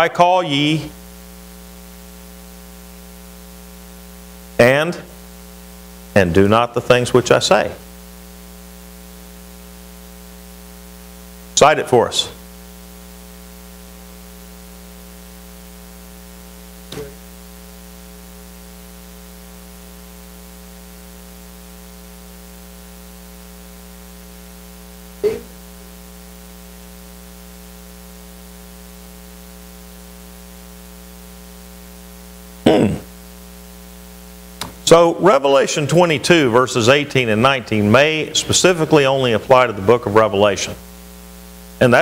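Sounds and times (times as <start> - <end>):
electrical hum with static: 0.0 - 42.0.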